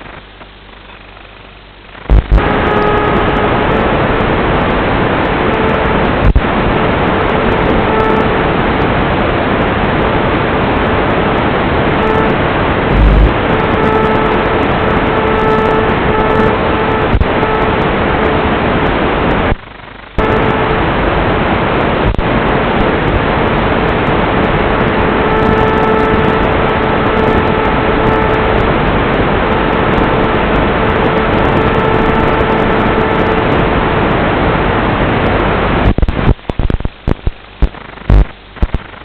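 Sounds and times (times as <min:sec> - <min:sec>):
faint whine: 0:00.0 - 0:39.0
static hiss: 0:00.0 - 0:39.0.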